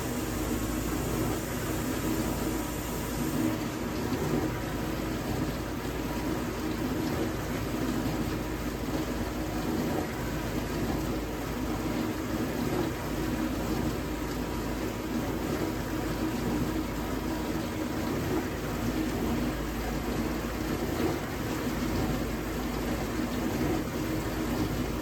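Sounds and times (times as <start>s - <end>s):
dishwasher pump motor humming: 0.0s - 25.0s
water circulating in dishwasher: 0.0s - 25.0s.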